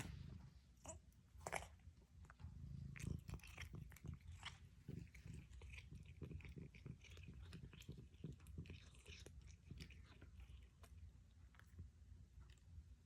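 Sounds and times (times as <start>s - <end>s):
cat chewing food: 0.0s - 13.0s.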